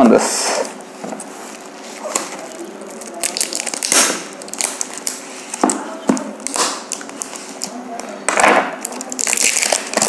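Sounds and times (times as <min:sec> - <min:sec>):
plastic shrink wrap crinkling: 0:00.6 - 0:10.0.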